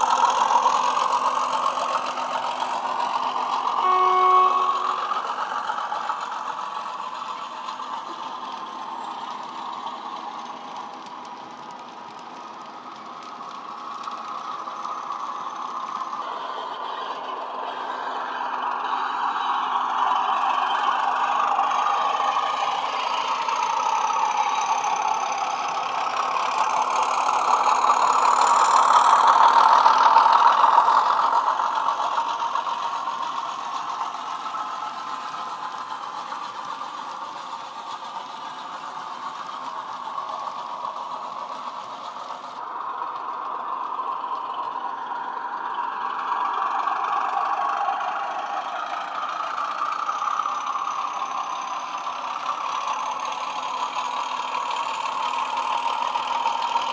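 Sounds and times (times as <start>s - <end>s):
model train diesel engine sound: 0.0s - 56.9s.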